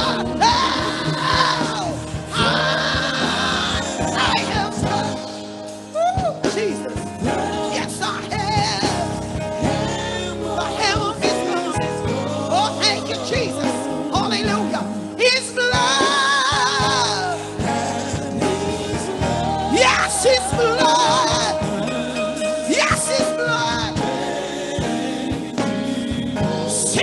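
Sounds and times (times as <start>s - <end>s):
bass guitar: 0.0s - 27.0s
drums: 0.0s - 27.0s
electric keyboard: 0.0s - 27.0s
gospel singers: 0.0s - 27.0s.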